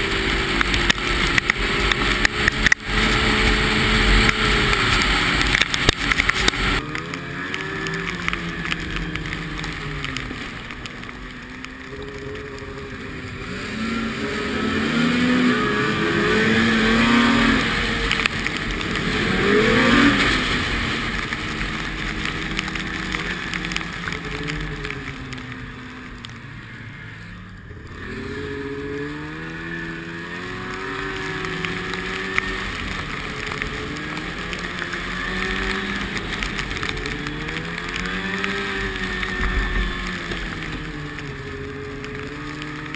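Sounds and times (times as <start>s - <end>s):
vehicles passing by: 0.0s - 42.9s.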